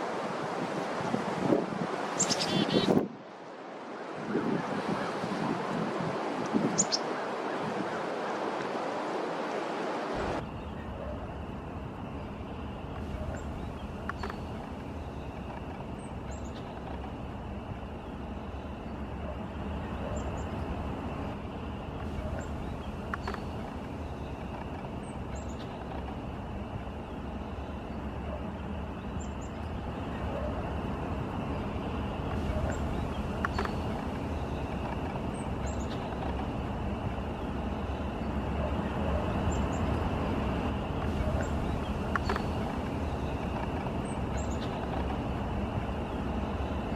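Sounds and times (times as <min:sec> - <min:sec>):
steady rushing noise: 0:00.0 - 0:46.9.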